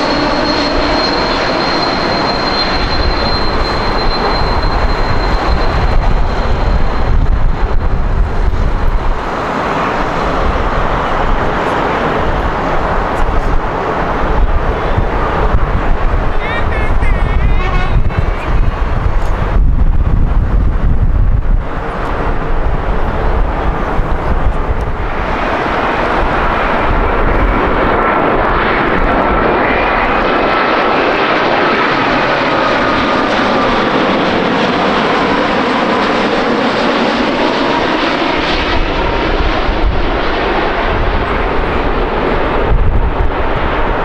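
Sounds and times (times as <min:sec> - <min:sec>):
jet airliner passing: 0:00.0 - 0:44.0.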